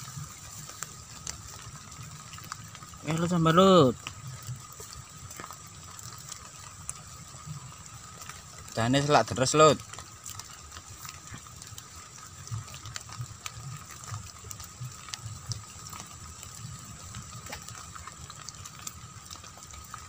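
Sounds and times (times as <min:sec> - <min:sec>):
drizzle pattering on water: 0:00.0 - 0:20.0.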